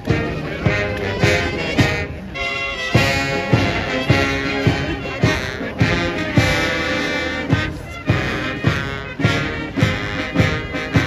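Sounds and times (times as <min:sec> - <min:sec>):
brass band playing a march: 0:00.0 - 0:11.0
drum strokes: 0:00.0 - 0:11.0.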